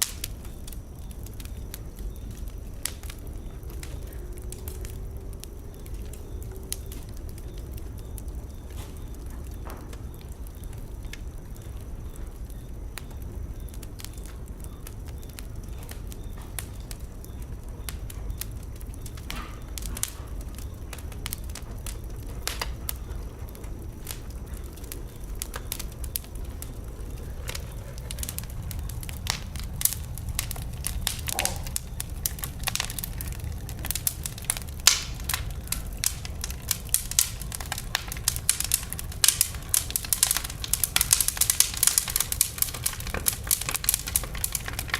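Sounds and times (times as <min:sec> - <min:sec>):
fire crackles and pops: 0:00.0 - 0:44.9
fire rumbling in fireplace: 0:00.0 - 0:44.9.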